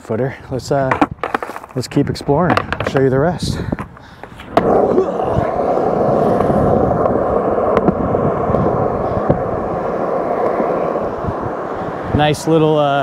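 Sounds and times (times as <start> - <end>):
skateboard wheels rumbling on concrete: 0.0 - 13.0.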